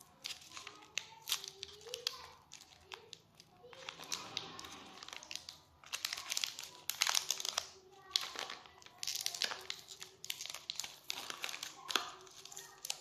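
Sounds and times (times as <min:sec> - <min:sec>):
candy wrapper crinkling: 0:00.0 - 0:13.0.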